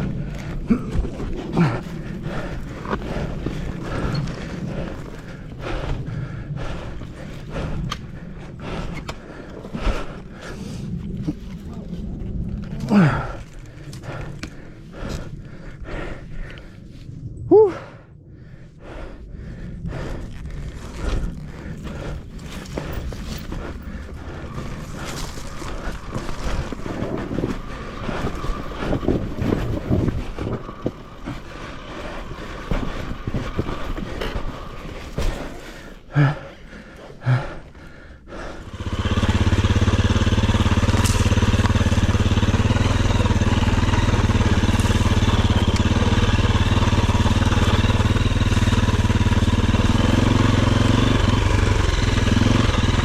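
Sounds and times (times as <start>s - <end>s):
dirt bike engine running: 0.0s - 11.5s, 19.9s - 36.4s, 38.3s - 53.0s.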